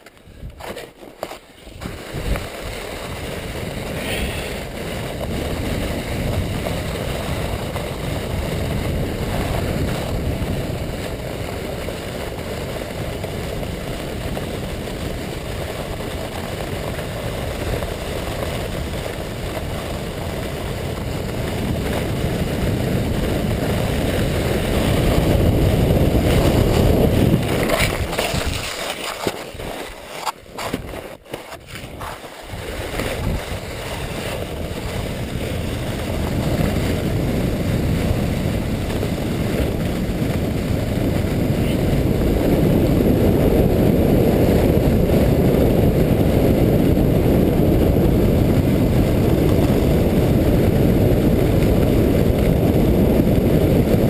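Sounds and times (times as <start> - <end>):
sled runners scraping snow: 0.0 - 54.0
snow spraying: 0.0 - 54.0
wind on microphone: 0.0 - 54.0.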